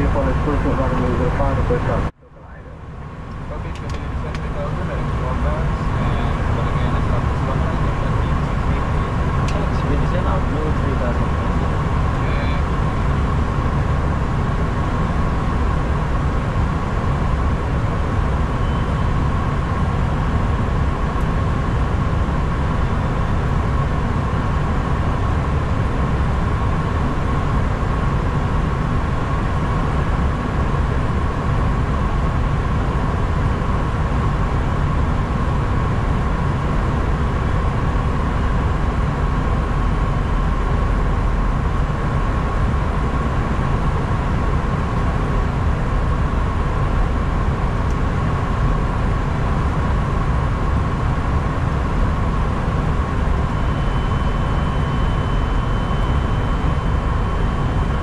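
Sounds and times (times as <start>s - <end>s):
constant whine: 0.0s - 58.0s.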